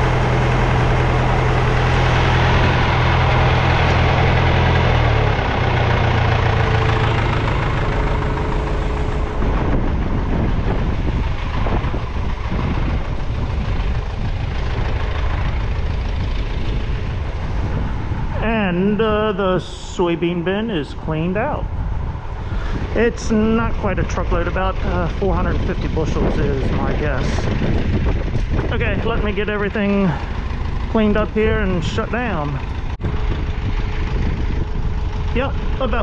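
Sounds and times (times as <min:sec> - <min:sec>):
engine running machinery: 0:00.0 - 0:36.0.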